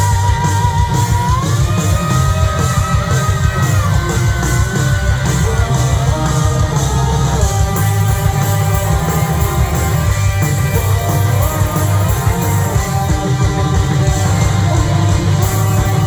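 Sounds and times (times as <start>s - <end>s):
bass and drums: 0.0s - 16.0s
electric guitar lead: 0.0s - 16.0s.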